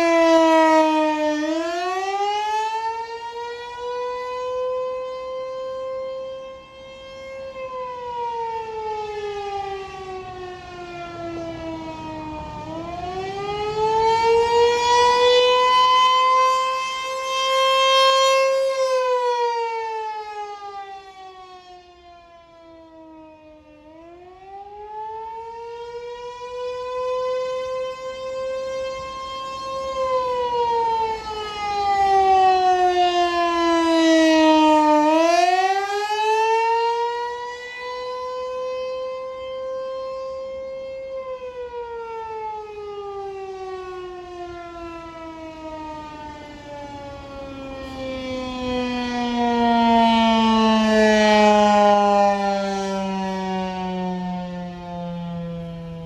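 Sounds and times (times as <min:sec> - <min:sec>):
warning siren wailing: 0:00.0 - 0:56.0.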